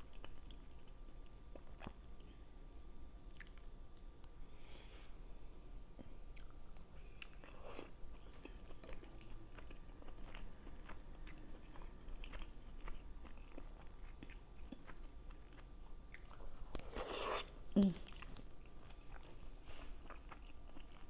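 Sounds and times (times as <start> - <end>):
person chewing food: 0.0 - 4.4, 6.0 - 21.0.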